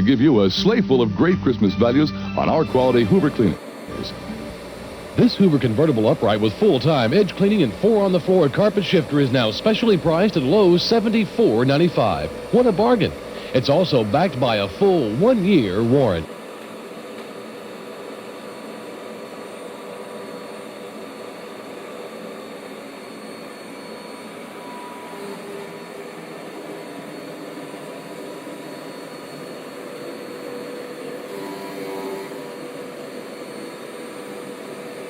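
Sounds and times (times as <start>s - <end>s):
vacuum cleaner running: 1.6s - 35.0s.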